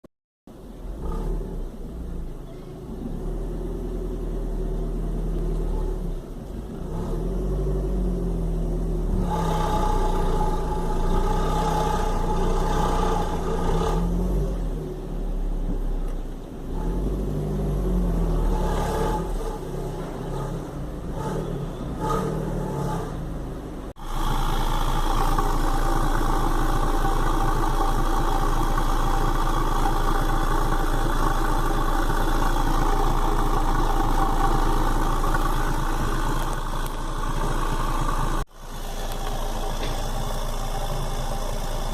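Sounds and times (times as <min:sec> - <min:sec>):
constant tone over exhaust: 0:00.5 - 0:41.9
car engine revving: 0:03.0 - 0:41.9.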